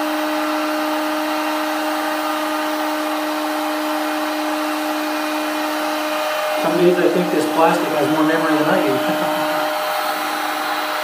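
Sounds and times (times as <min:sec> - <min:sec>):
heat gun blower whirring: 0:00.0 - 0:11.0.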